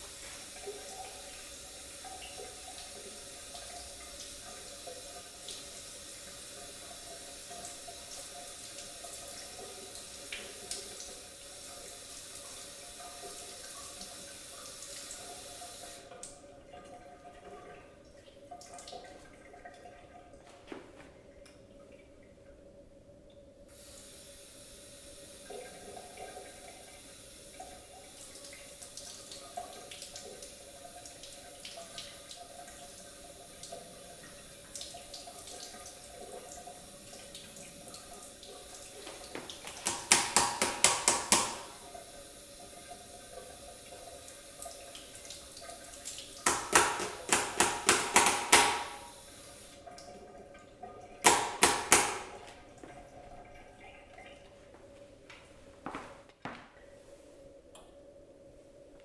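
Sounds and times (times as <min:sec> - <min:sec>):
tap water running into sink: 0:00.0 - 0:17.8, 0:23.8 - 0:54.8.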